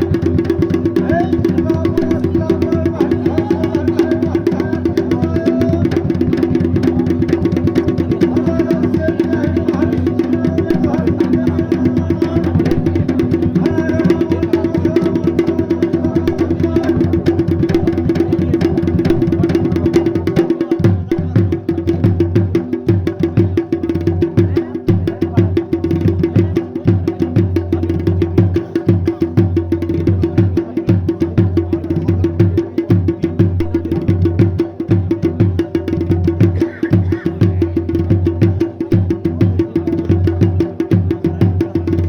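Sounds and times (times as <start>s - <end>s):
fast drumming: 0.0s - 42.0s.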